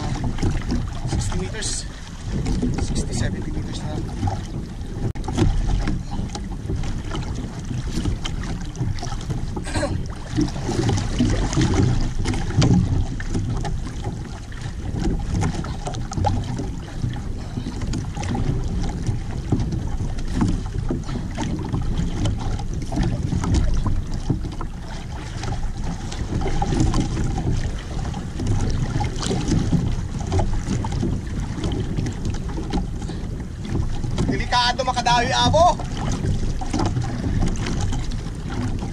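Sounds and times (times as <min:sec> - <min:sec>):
water slapping boat hull: 0:00.0 - 0:38.9
wind buffeting microphone: 0:00.0 - 0:38.9.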